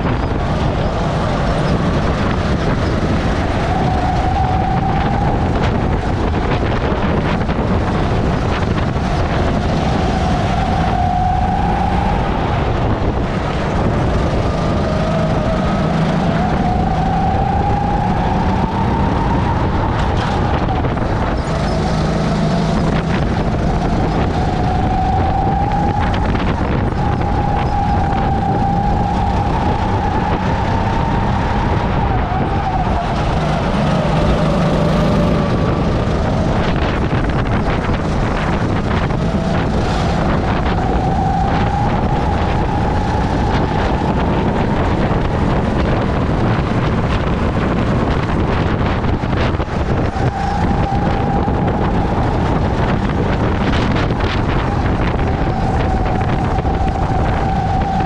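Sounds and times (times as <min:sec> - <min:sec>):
kart engine running hard: 0:00.0 - 0:58.0
wind and road noise: 0:00.0 - 0:58.0.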